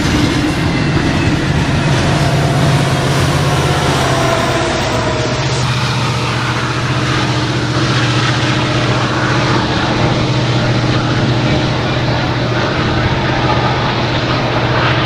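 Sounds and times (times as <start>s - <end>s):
diesel locomotive engines droning: 0.0s - 15.0s.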